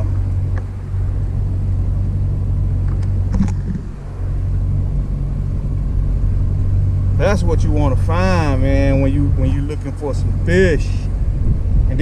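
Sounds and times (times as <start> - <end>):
boat motor idling: 0.0 - 12.0.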